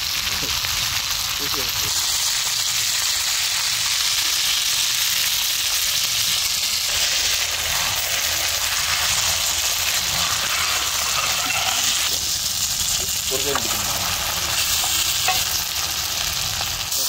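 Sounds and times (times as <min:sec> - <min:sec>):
fish frying in hot oil: 0:00.0 - 0:17.0.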